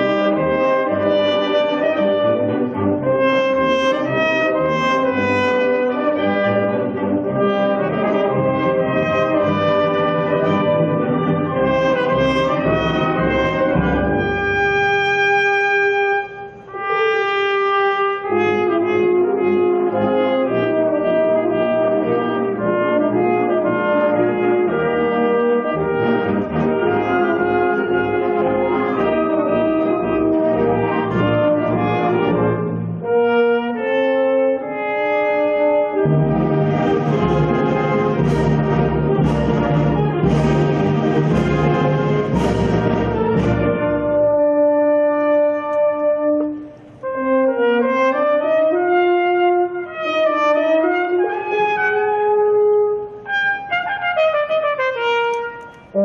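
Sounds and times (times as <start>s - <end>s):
trumpet solo: 0.0s - 56.0s
wind band playing: 0.0s - 56.0s.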